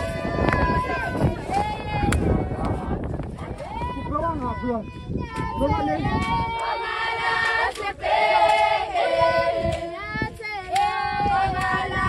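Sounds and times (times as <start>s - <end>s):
women singing together: 0.0s - 3.7s, 5.3s - 12.0s.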